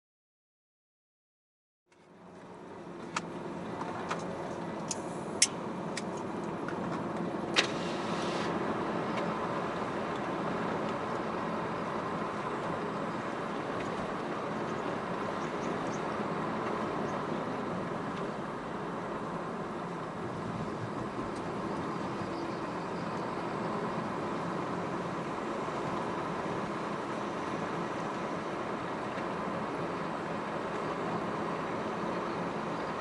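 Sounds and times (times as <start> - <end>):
vehicle running on road: 1.9 - 33.0.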